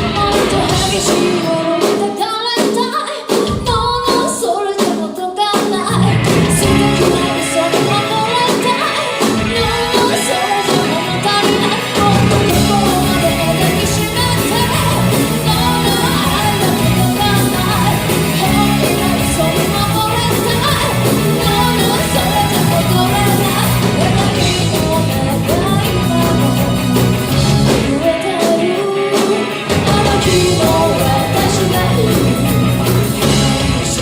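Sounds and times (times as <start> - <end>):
live band playing with singing: 0.0 - 34.0.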